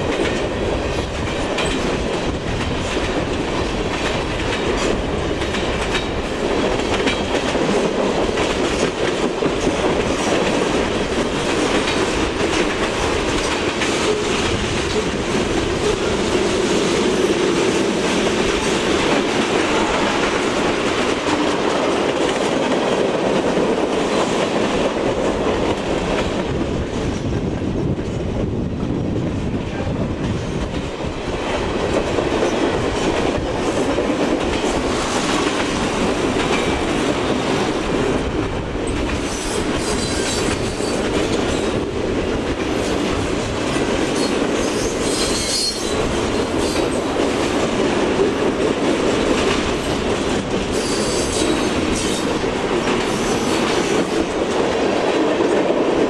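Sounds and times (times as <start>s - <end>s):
freight train wheels clacking: 0.0s - 28.3s, 29.6s - 56.0s.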